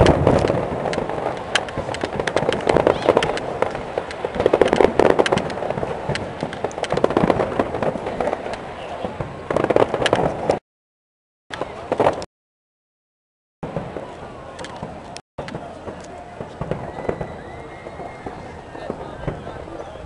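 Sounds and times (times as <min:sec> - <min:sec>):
fireworks bangs and crackling: 0:00.0 - 0:10.6, 0:11.5 - 0:12.3, 0:13.6 - 0:20.0.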